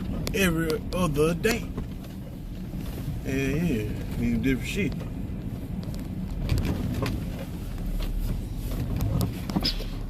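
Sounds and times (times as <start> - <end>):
truck engine and road rumble: 0.0 - 10.0.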